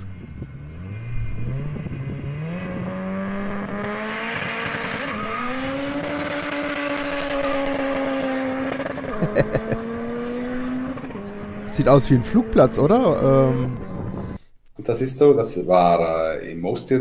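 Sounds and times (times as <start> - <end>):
car engine revving hard: 0.0 - 14.4.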